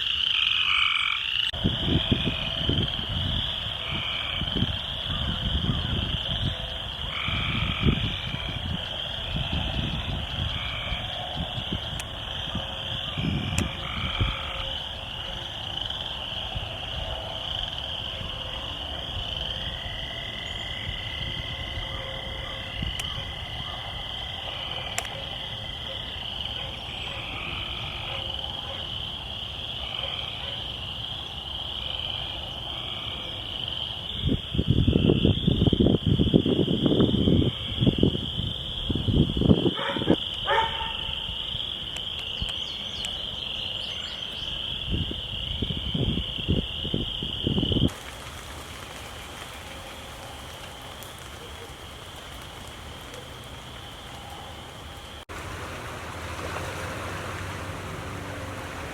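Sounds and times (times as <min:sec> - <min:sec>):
frogs trilling: 0:00.0 - 0:48.1
frogs croaking: 0:00.0 - 0:58.9.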